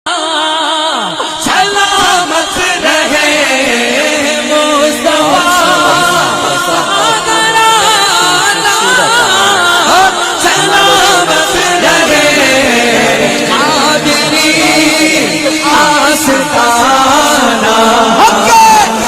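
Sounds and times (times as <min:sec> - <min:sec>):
person singing devotional song: 0:00.1 - 0:19.0
background voices: 0:00.9 - 0:19.0.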